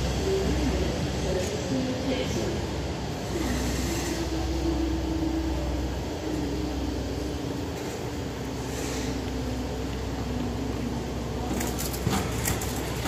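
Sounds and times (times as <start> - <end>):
engine hum: 0.0 - 13.0
train rumble: 0.0 - 13.0.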